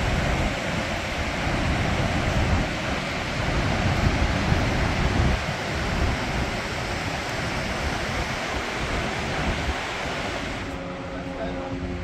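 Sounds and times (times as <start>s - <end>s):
waterfall roaring: 0.0s - 12.0s
wind buffeting microphone: 0.0s - 12.0s.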